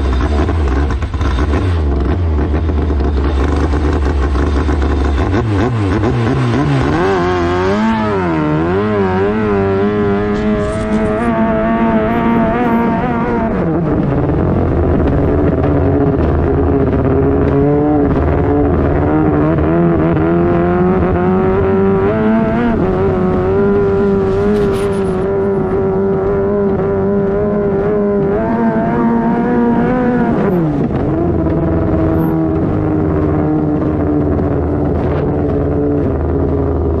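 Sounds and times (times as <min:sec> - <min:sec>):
boat engine running hard: 0:00.0 - 0:37.0.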